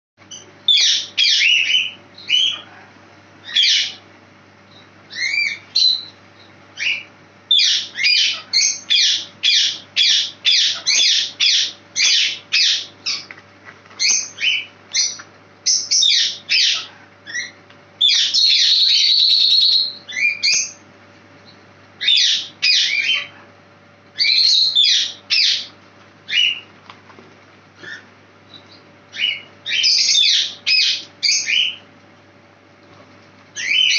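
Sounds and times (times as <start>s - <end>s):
small bird chirping: 0.3s - 2.7s, 3.4s - 4.0s, 4.7s - 13.3s, 13.9s - 20.8s, 21.4s - 23.4s, 24.2s - 26.7s, 27.8s - 31.9s, 33.5s - 33.9s.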